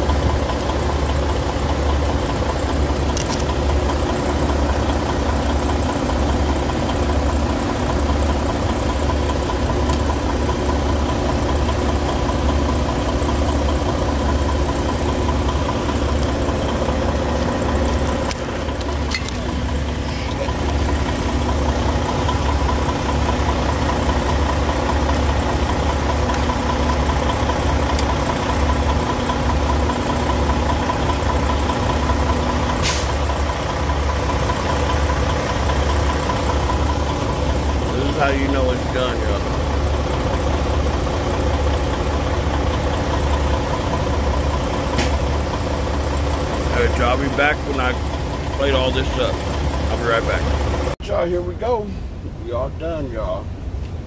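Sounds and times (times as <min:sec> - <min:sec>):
constant hum: 0:00.0 - 0:54.0
diesel truck engine idling: 0:00.0 - 0:54.0.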